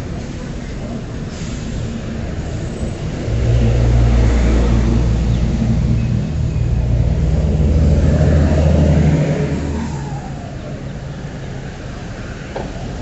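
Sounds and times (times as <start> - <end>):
large vehicle engine droning: 0.0 - 13.0
traffic hiss on wet road: 0.0 - 13.0.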